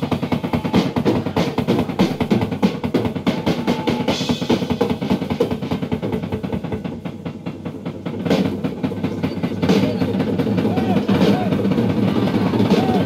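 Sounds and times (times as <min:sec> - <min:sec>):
rock drum kit solo: 0:00.0 - 0:13.0.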